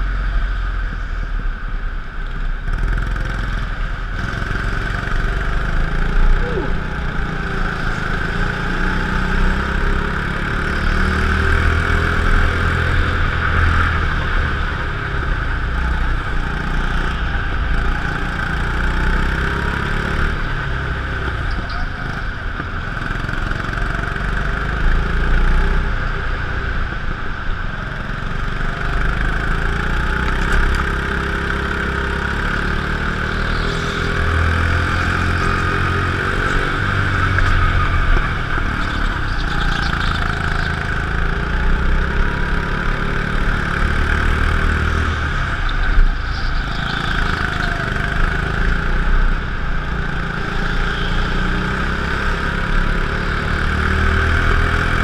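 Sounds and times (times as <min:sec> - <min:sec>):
go-kart engine running: 0:01.8 - 0:55.0.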